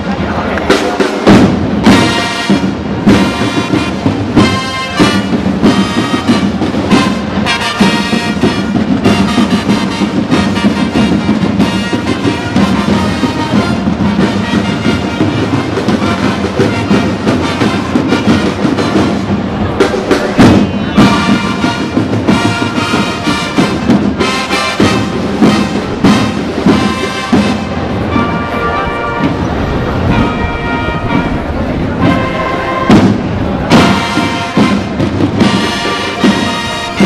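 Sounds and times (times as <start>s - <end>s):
marching band brass music: 0.0s - 37.0s
drum strokes: 0.6s - 37.0s.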